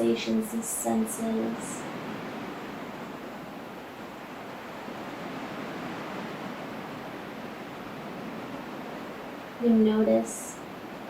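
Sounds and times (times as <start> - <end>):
ocean waves washing on shore: 0.0 - 11.0.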